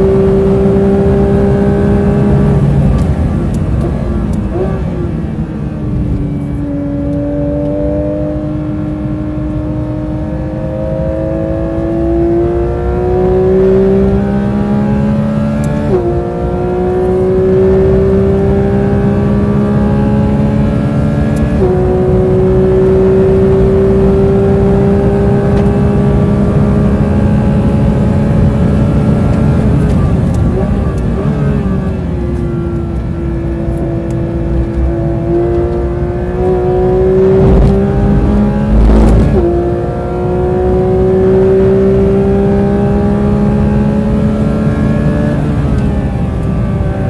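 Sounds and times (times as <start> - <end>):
sports car engine accelerating: 0.0 - 47.0.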